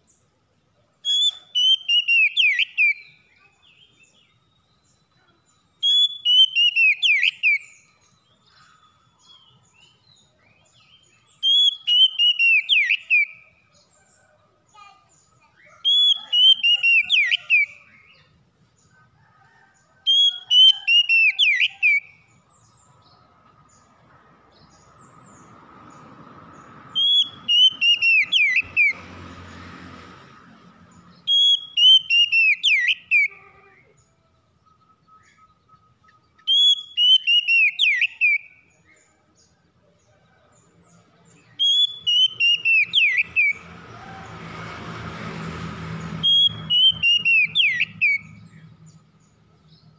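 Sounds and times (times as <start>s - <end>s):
songbird whistled song: 0.9s - 18.9s, 19.5s - 23.9s, 24.5s - 29.0s, 30.9s - 39.1s, 40.9s - 43.7s, 46.1s - 49.9s.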